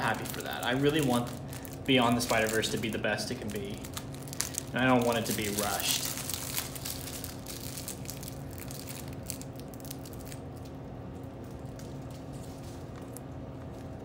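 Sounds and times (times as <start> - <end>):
plastic wrapping crinkling: 0.0 - 14.0.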